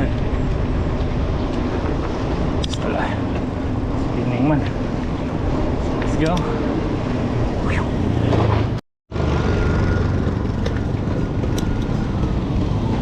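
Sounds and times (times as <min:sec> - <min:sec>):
bike tyre rumble: 0:00.0 - 0:13.0.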